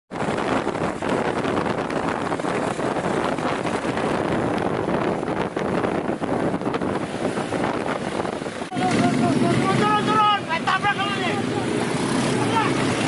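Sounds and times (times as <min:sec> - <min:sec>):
road noise: 0:00.1 - 0:13.0
wind rushing on microphone: 0:00.1 - 0:13.0
motorcycle engine: 0:00.2 - 0:13.0.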